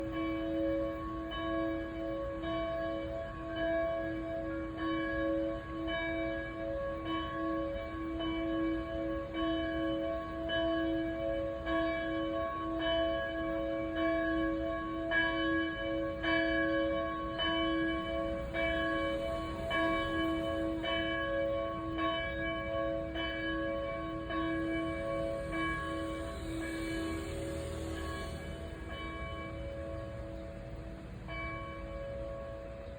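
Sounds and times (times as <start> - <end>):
church bells ringing: 0.0 - 32.9.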